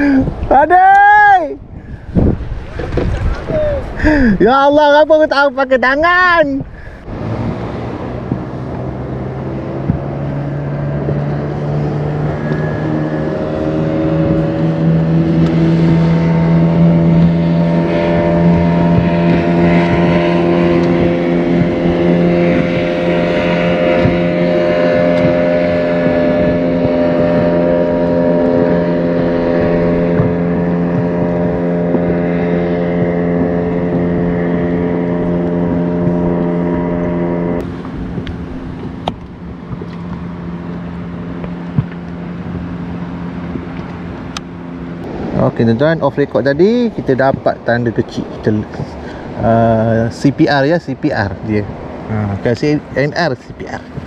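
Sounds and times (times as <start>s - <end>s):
outboard motor running: 0.0s - 54.0s
wind: 0.0s - 54.0s.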